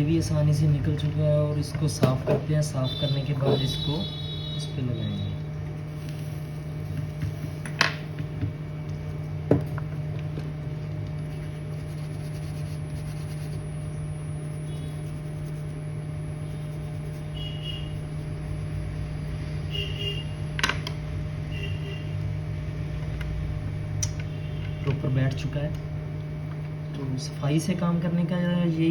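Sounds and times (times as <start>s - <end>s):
equipment humming: 0.0s - 28.9s.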